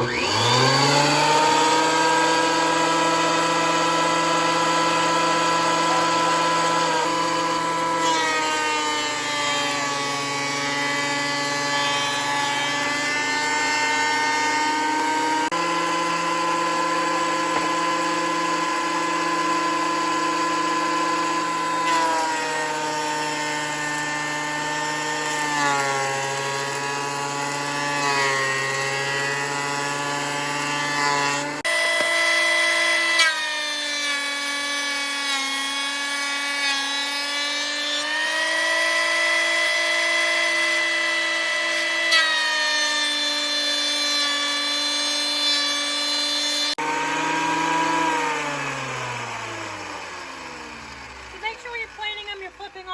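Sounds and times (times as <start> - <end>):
thickness planer whining: 0.0 - 52.9.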